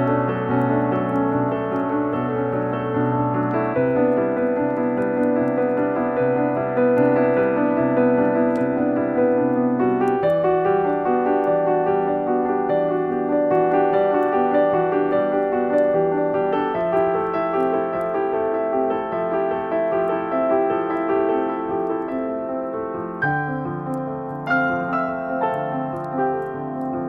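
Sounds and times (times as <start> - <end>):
slow soft piano music: 0.0 - 27.0.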